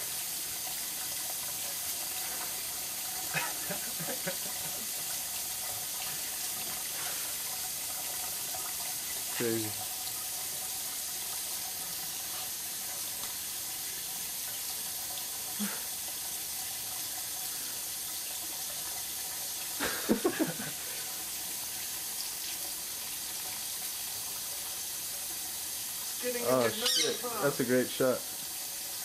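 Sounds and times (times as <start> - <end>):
faucet running into sink: 0.0 - 29.0.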